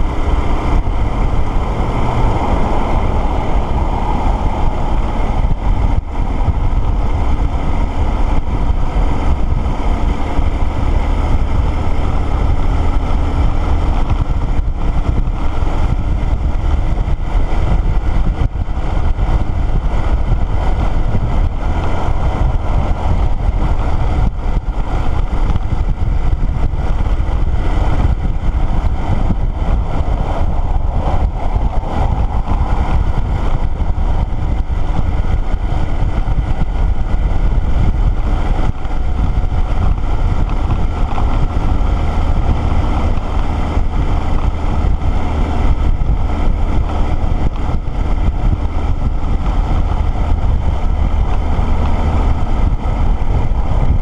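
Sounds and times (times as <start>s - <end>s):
motorcycle engine and road noise: 0.0s - 54.0s
wind rushing over microphone: 0.0s - 54.0s.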